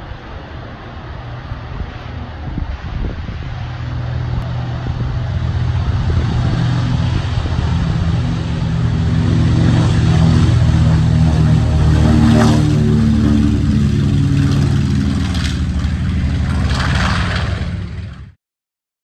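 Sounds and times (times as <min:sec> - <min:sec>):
wind noise on microphone: 0:00.0 - 0:18.3
radial aircraft engines roaring: 0:00.0 - 0:18.4.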